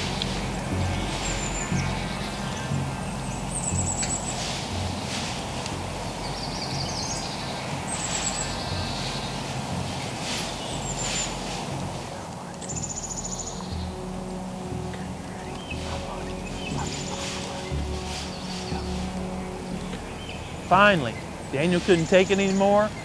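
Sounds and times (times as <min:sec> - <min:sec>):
low steady rumble: 0:00.0 - 0:23.0
songbirds trilling: 0:00.0 - 0:23.0.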